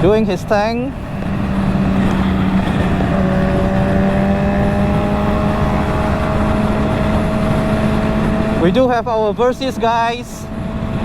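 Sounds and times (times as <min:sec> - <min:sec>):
motorcycle engine at speed: 0:00.0 - 0:11.0
rush of noise: 0:00.0 - 0:11.0.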